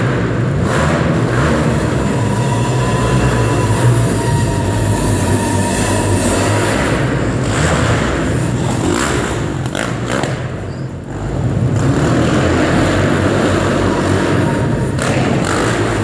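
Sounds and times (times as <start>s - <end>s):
quad bike engine revving: 0.0s - 16.0s.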